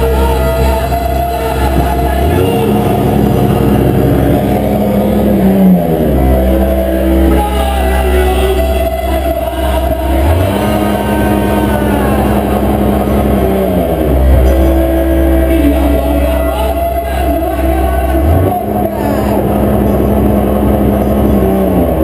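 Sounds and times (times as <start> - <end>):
industrial noise music: 0.0 - 22.0.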